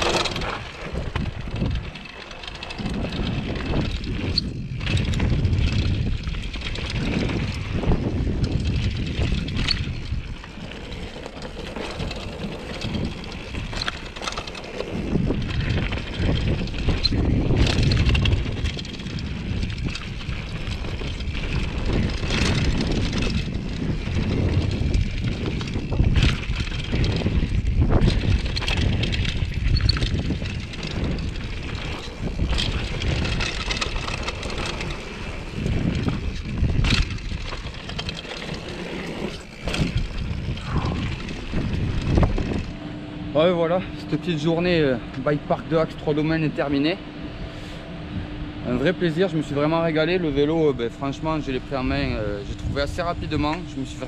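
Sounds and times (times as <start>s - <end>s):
wind on the microphone: 0.0s - 11.0s, 14.8s - 43.9s, 47.3s - 54.0s
bike knocking and rattling: 0.0s - 47.7s, 48.7s - 54.0s
bike tyres rumbling on dirt: 0.0s - 54.0s.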